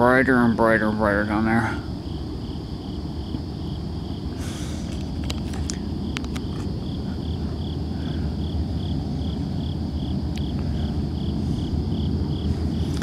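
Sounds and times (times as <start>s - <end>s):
crickets chirping: 0.0s - 13.0s
low rumble: 1.8s - 13.0s.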